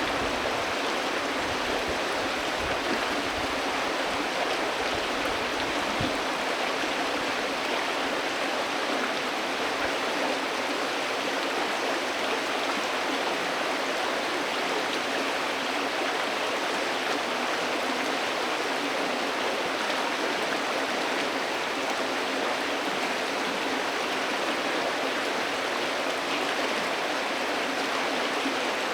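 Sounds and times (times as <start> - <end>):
river flowing: 0.0 - 28.9.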